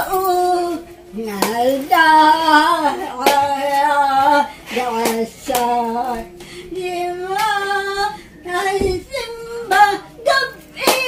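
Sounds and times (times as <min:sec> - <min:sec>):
elderly woman singing: 0:00.0 - 0:11.0.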